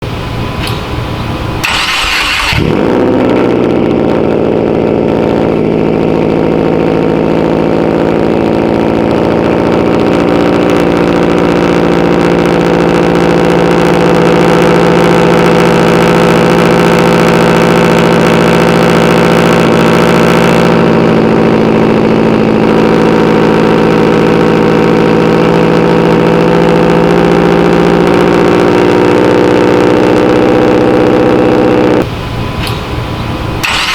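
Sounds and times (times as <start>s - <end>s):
car engine cranking and idling: 0.0s - 33.9s.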